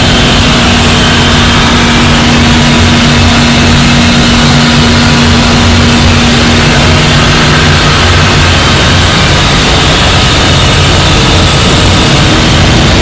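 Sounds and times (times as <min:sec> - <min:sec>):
engine-room machinery drone: 0:00.0 - 0:13.0.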